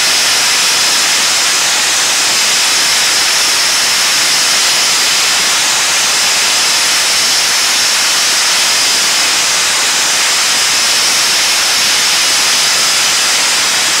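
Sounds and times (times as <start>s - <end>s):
media blaster hissing: 0.0s - 14.0s.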